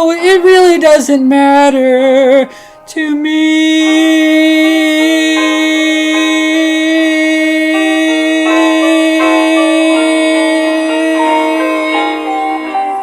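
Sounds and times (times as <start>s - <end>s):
higher melodic line: 0.0s - 13.0s
held low note: 1.8s - 13.0s.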